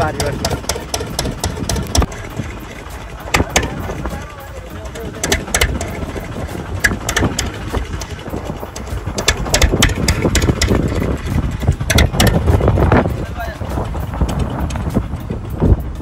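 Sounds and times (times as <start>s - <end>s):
boat engine rumble: 0.0s - 16.0s
hull knocking and slapping on waves: 0.0s - 16.0s.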